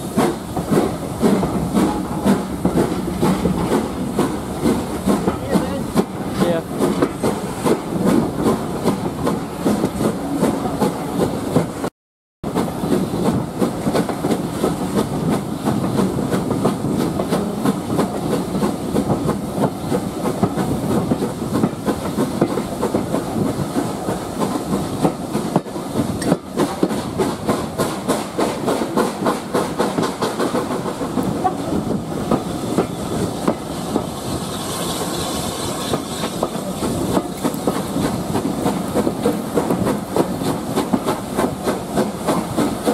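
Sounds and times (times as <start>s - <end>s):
steam train rhythmic clatter: 0.0s - 42.9s.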